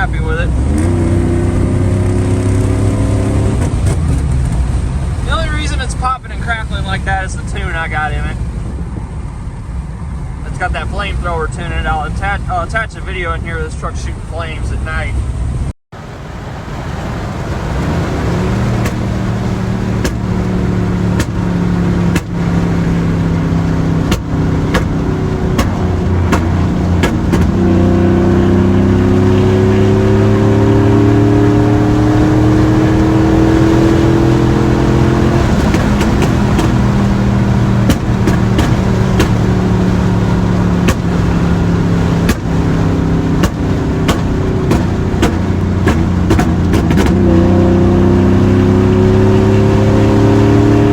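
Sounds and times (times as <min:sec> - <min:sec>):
truck engine accelerating: 0:00.0 - 0:50.9.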